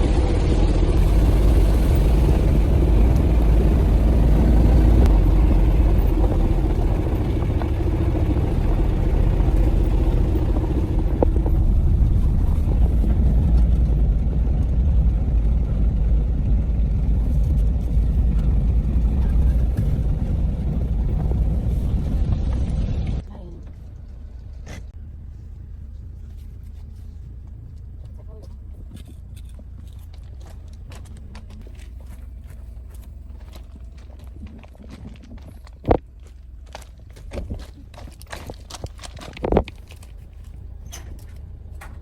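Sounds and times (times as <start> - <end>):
vehicle engine rumbling: 0.0 - 42.0.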